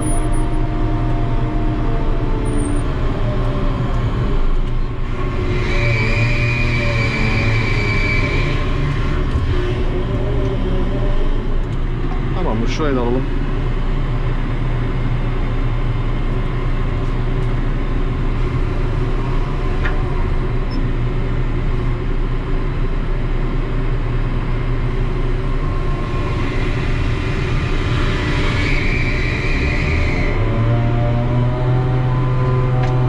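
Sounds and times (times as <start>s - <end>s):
crane machinery hum: 0.0s - 33.0s.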